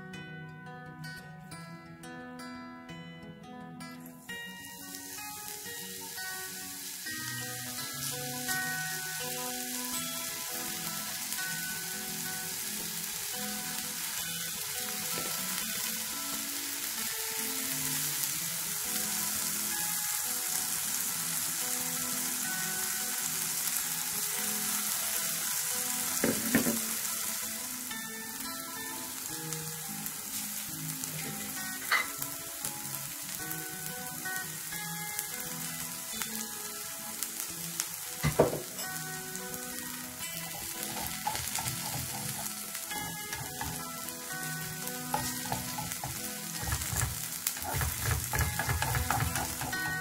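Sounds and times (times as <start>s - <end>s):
soft background music: 0.0s - 50.0s
pancake sizzling in hot oil: 4.3s - 50.0s.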